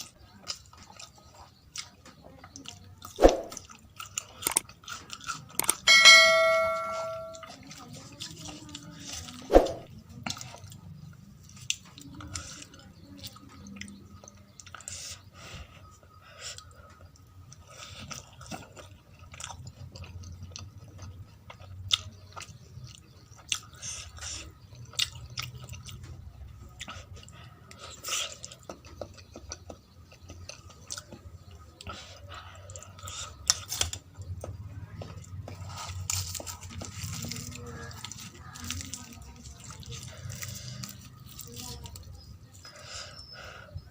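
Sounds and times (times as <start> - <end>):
person chewing food: 0.0 - 5.9, 7.4 - 43.9.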